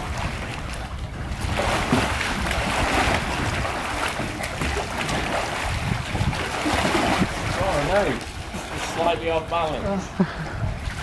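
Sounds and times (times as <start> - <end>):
water splashing and sloshing: 0.0 - 11.0
wind on microphone: 0.0 - 11.0.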